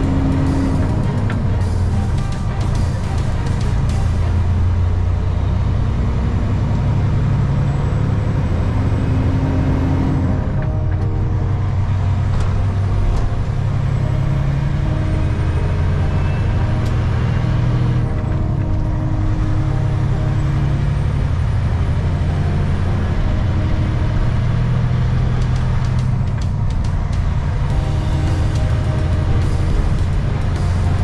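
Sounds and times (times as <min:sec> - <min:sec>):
diesel truck engine droning: 0:00.0 - 0:31.0.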